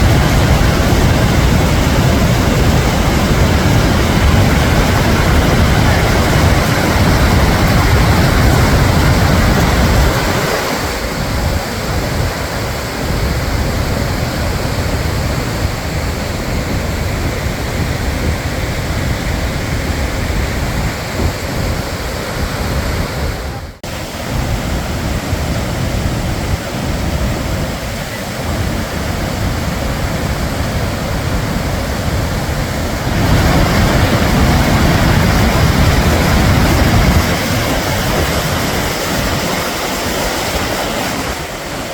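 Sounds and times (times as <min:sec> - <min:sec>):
waterfall roar: 0:00.0 - 0:41.9.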